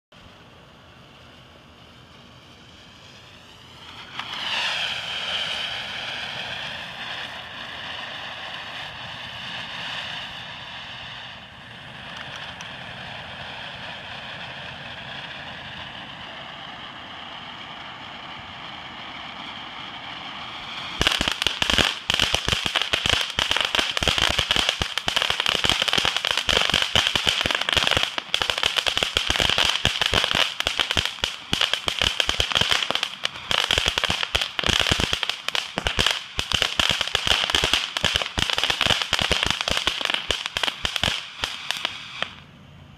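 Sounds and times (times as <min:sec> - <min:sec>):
firework fountain hissing and crackling: 0:00.2 - 0:42.9.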